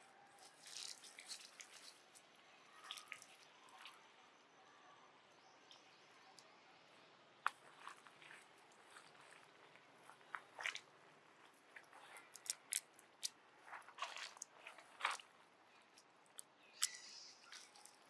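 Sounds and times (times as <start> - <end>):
faint crunching and crackling: 0.0 - 4.4, 5.6 - 18.0.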